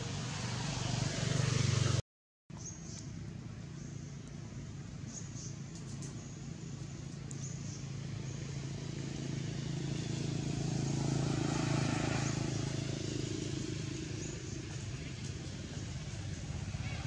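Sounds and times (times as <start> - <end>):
vehicle engine hum: 2.6 - 17.0.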